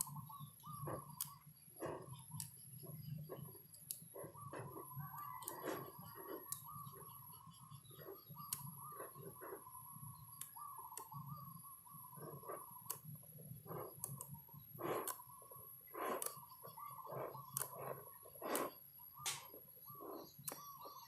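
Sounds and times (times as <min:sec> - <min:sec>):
birdsong: 0:00.0 - 0:21.0
magnetic balls clicking together: 0:00.0 - 0:21.0.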